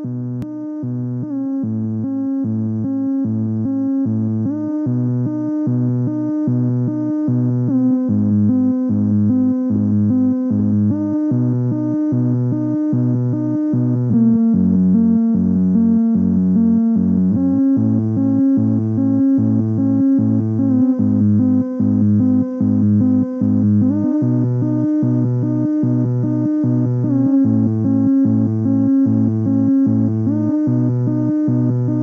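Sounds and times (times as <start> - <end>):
synthesizer looping bass pattern: 0.0 - 32.0.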